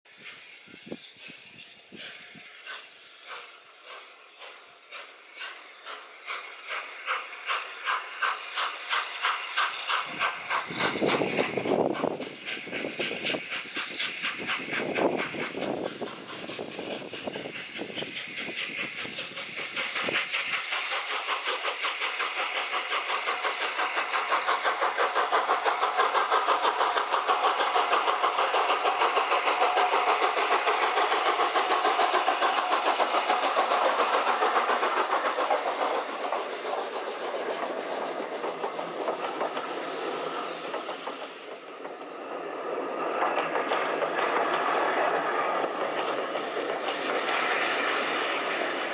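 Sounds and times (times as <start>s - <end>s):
steam locomotive exhaust beats: 0.1s - 48.9s.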